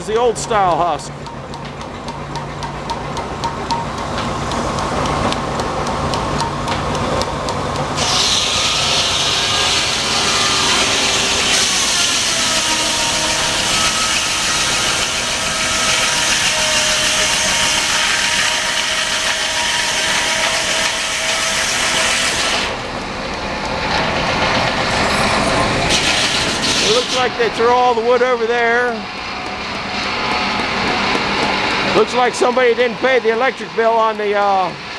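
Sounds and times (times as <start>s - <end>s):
circular saw cutting log: 0.0s - 34.9s.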